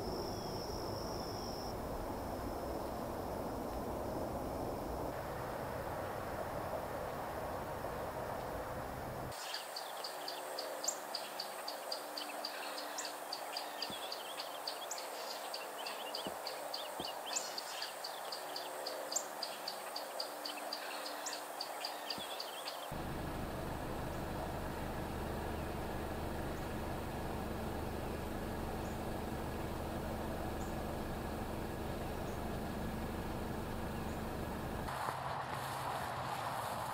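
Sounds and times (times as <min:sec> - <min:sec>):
distant traffic: 0:00.0 - 0:36.9.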